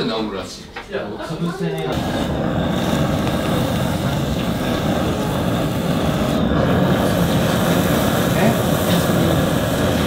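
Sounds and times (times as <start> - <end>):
blowtorch hissing: 1.5 - 10.0.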